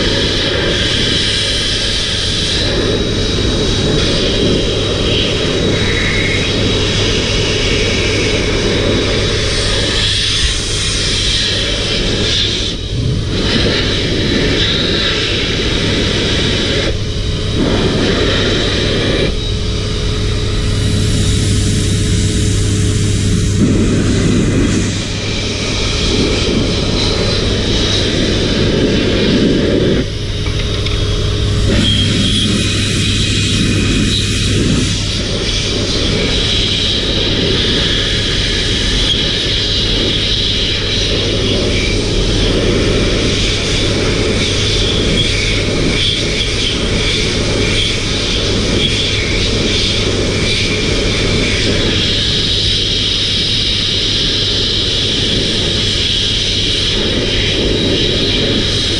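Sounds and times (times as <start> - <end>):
air rushing through hose: 0.0 - 58.9
motor hum: 0.0 - 58.9.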